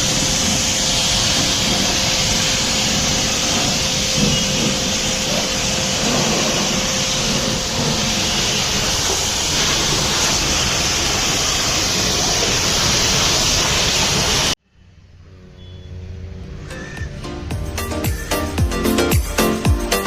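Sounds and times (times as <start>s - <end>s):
high-pressure water jet spraying: 0.0s - 14.6s, 16.8s - 19.6s.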